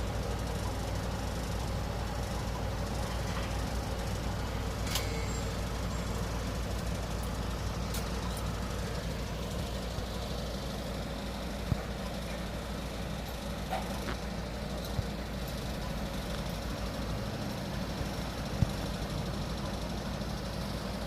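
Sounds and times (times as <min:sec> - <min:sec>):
heavy truck engine rumbling: 0:00.0 - 0:21.0.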